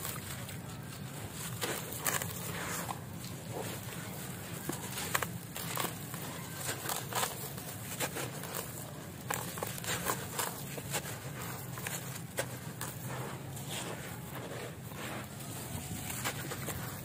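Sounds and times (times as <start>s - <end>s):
wet concrete crunching in water: 0.0s - 17.0s.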